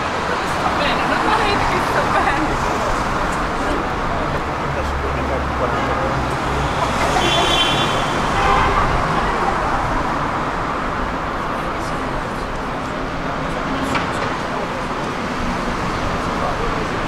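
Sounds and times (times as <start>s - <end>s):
passing cars: 0.0s - 17.0s.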